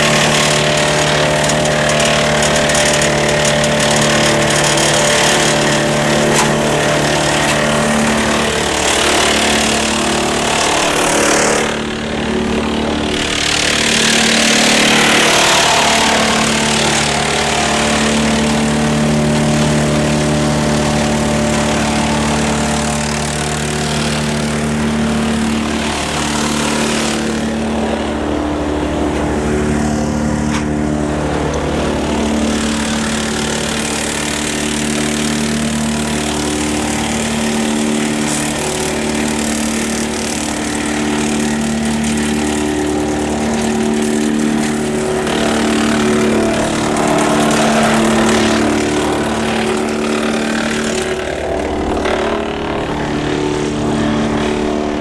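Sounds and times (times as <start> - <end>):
tractor engine running: 0.0 - 55.0
wood chipper chipping: 0.0 - 55.0.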